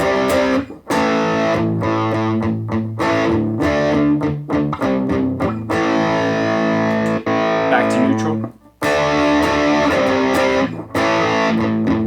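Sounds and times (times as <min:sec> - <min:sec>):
overdriven electric guitar chords: 0:00.0 - 0:12.0.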